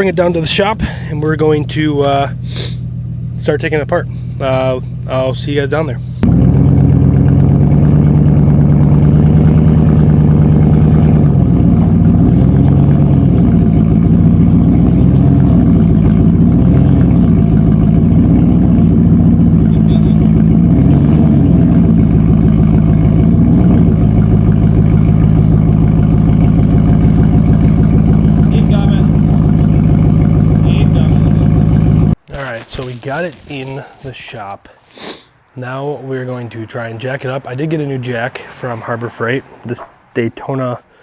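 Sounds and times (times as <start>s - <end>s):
truck engine revving: 0.0s - 41.0s.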